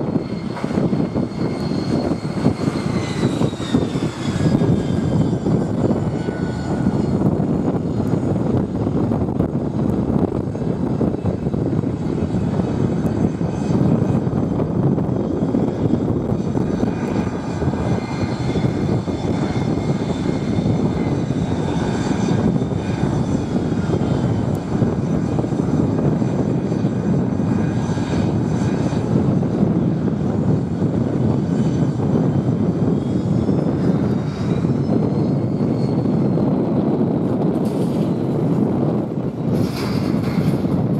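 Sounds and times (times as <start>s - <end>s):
high turbine whine: 0.0s - 40.9s
jet engines rushing: 0.0s - 40.9s.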